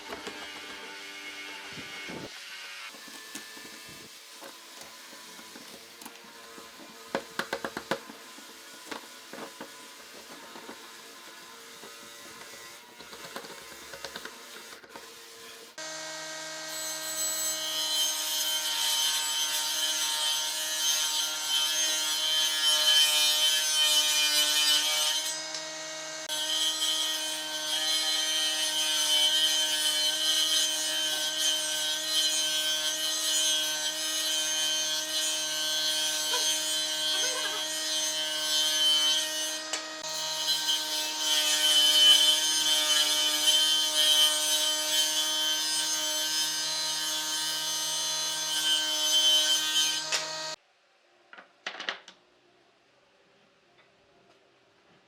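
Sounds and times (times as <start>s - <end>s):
power tool cutting wood: 0.0s - 50.6s.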